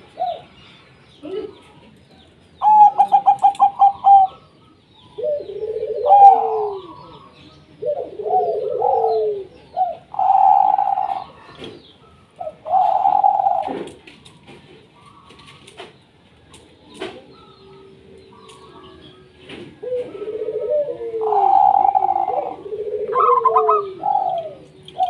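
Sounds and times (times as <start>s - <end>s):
doves cooing: 0.0s - 25.0s.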